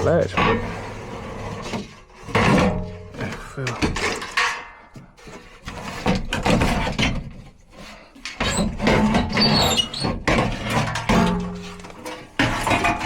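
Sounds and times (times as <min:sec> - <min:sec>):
hard parts knocking and rattling: 0:00.0 - 0:00.8, 0:01.7 - 0:13.0.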